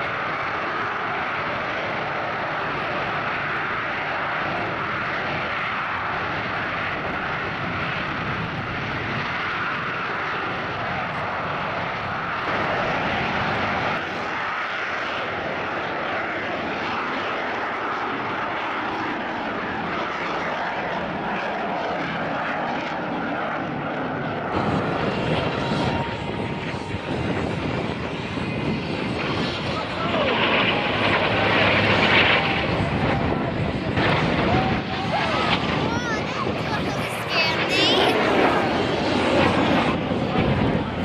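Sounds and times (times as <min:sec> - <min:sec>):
jet engine running loud: 0:00.0 - 0:41.0.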